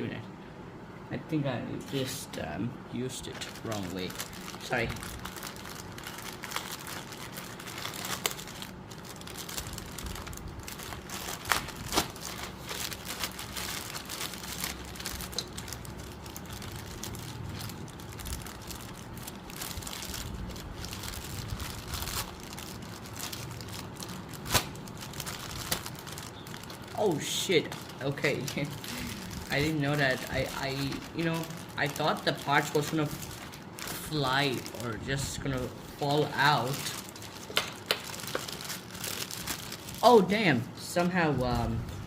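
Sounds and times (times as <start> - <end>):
small parts rustling and crinkling: 3.2 - 40.3.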